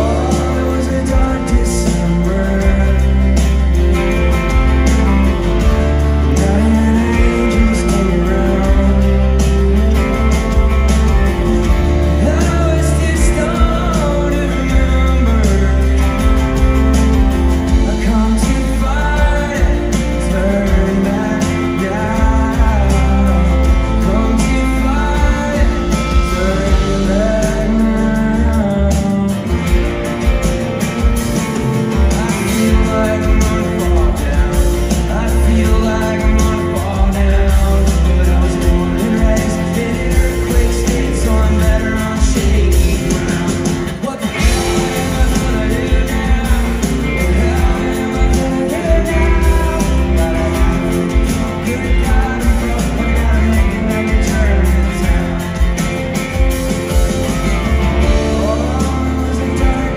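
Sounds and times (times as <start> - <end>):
acoustic guitar: 0.0 - 59.9
bass: 0.0 - 59.9
drums: 0.0 - 59.9
electric guitar: 0.0 - 59.9
male lead vocal: 0.0 - 59.9.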